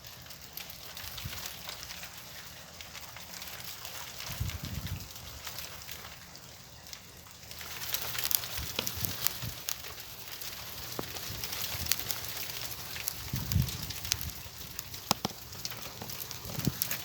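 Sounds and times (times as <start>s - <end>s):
hailstones hitting hard surfaces: 0.0s - 17.0s.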